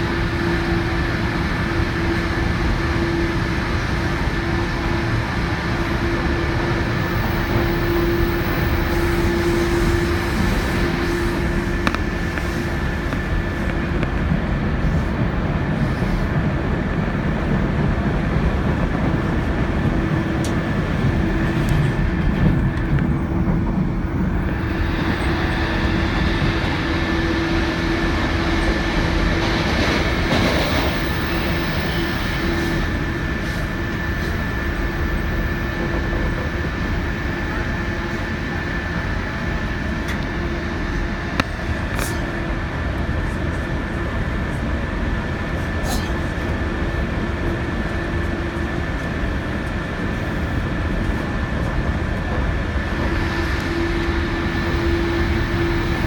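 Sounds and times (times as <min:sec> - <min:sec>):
train wheels rumbling on rails: 0:00.0 - 0:56.0
steady whine: 0:00.1 - 0:16.0, 0:18.7 - 0:56.0.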